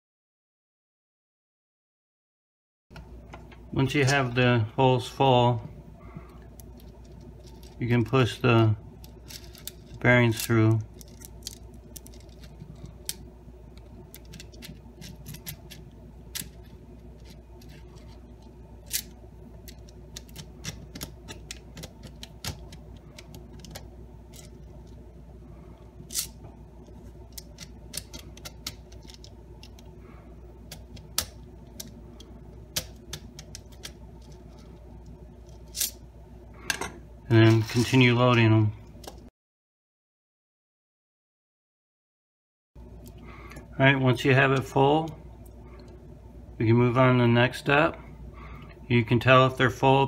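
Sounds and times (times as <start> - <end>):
low steady hum: 2.9 - 39.3, 42.8 - 50.0.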